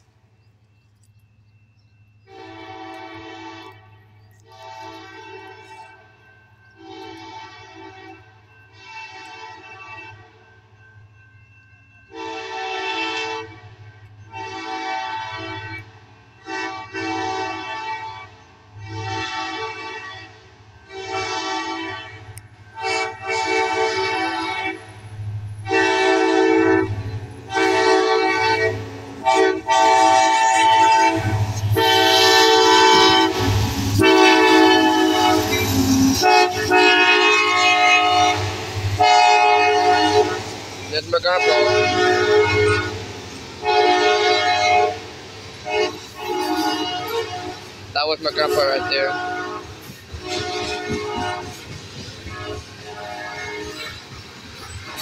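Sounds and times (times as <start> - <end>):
locomotive air horn blasts: 2.2 - 6.1, 6.8 - 10.4, 12.1 - 13.7, 14.3 - 24.9, 25.6 - 55.0.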